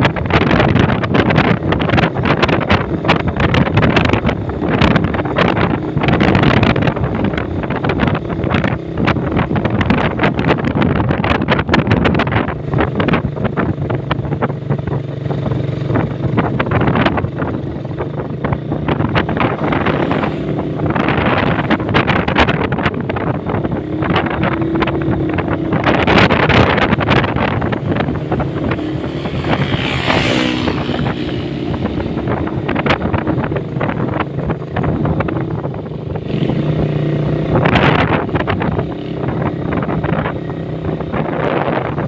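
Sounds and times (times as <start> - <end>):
motorcycle engine running: 0.0 - 42.0
wind buffeting microphone: 0.0 - 42.0.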